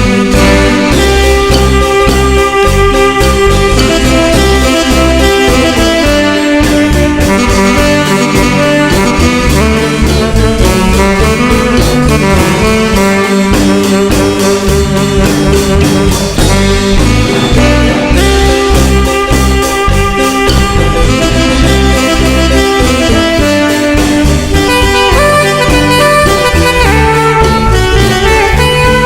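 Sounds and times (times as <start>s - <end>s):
marimba dance music: 0.0s - 29.0s
saxophones and brass melody: 0.0s - 29.0s.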